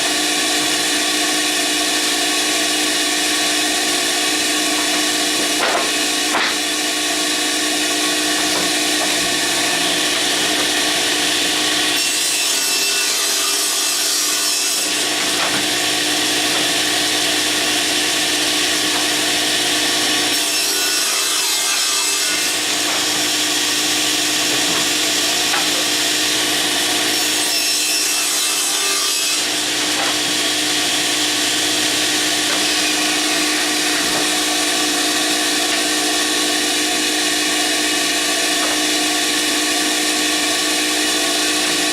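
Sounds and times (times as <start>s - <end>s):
table saw ripping wood: 0.0s - 41.9s.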